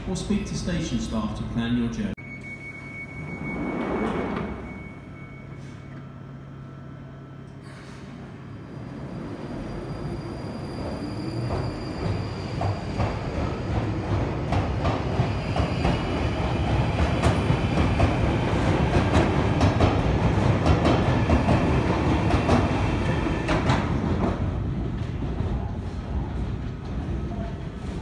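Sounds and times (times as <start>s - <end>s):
train rumble and whine: 0.0s - 28.0s.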